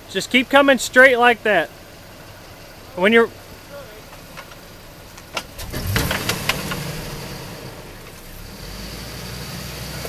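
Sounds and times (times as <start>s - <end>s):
off-road engine pulling under throttle: 0.0s - 10.0s.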